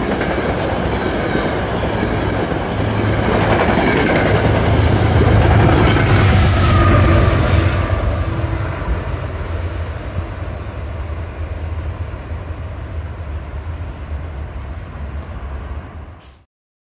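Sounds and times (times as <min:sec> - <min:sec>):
wheel-on-rail noise: 0:00.0 - 0:16.4
train rumbling past: 0:00.0 - 0:16.5.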